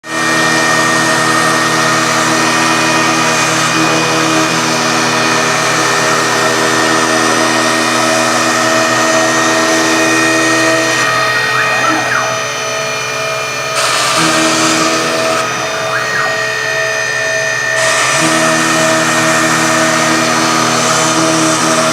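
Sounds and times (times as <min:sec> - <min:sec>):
router spindle whine: 0:00.1 - 0:21.9.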